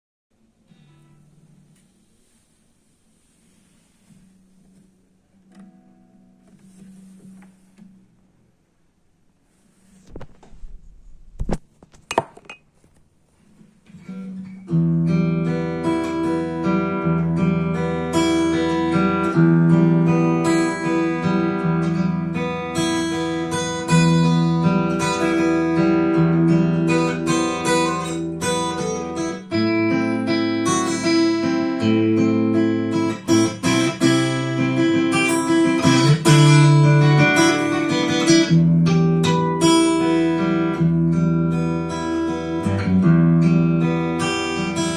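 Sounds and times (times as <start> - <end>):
acoustic guitar chords and notes: 0.4 - 8.6, 9.4 - 44.9.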